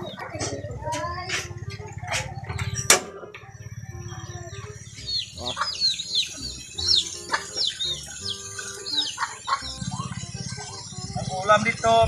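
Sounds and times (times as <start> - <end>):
background music with low beat: 0.0 - 12.0
bird chirping: 0.0 - 12.0.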